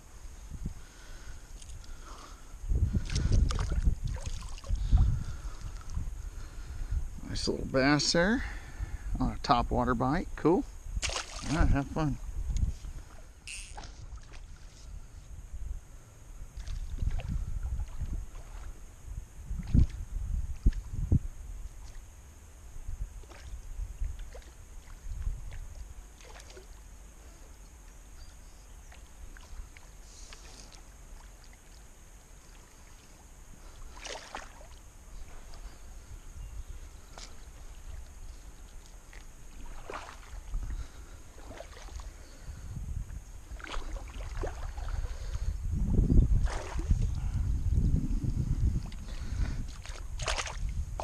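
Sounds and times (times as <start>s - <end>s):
water splashing around kayak: 0.7s - 7.0s, 10.9s - 15.0s, 16.4s - 47.8s, 48.5s - 51.0s.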